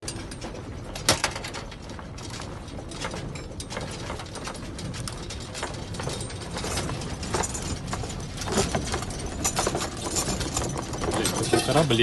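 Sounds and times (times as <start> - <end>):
loose objects rattling: 0.0 - 12.0.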